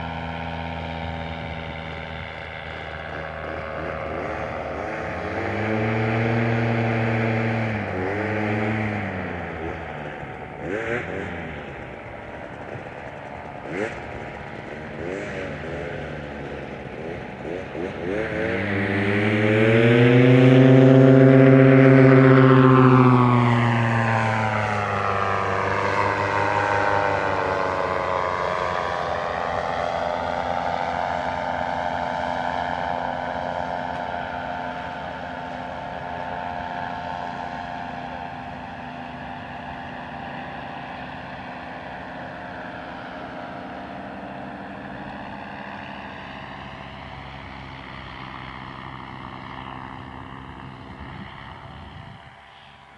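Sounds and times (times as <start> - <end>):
paramotor engine droning past: 0.0 - 52.9.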